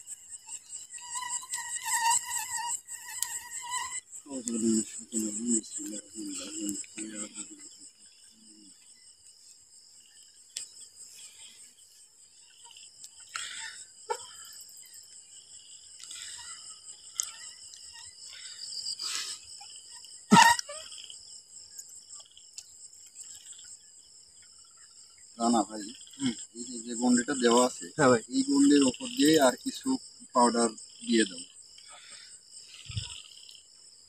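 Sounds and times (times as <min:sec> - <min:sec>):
crickets and insects trilling: 0:00.0 - 0:34.0.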